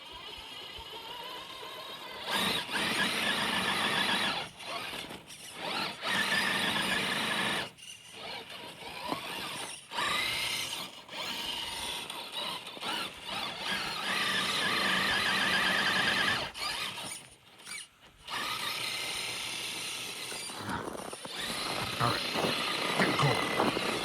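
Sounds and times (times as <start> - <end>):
small vehicle motor whine: 0.0 - 24.0.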